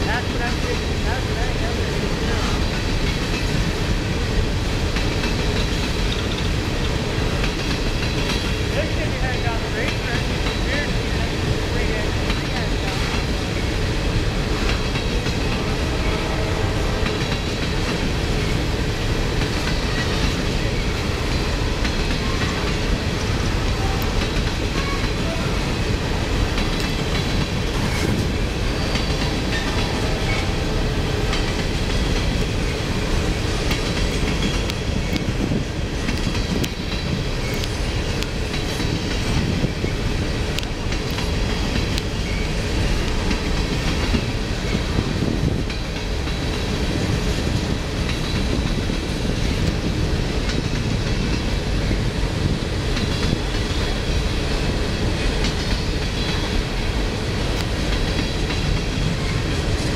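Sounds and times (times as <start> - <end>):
train wheels rumbling on rails: 0.0 - 59.9
wheels clacking over rail joints: 0.0 - 59.9.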